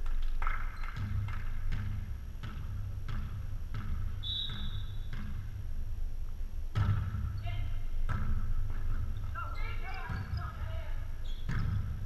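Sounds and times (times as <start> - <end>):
ball thuds and footfalls on gym court: 0.0 - 12.0
steady low hum: 0.0 - 12.0.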